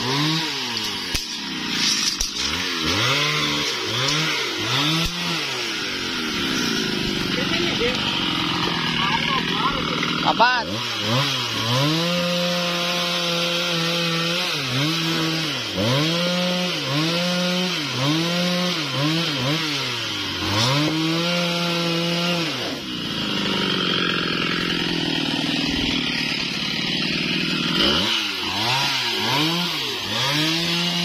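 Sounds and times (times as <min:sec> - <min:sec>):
chainsaw cutting wood: 0:00.0 - 0:31.0
chainsaw revving: 0:00.0 - 0:31.0.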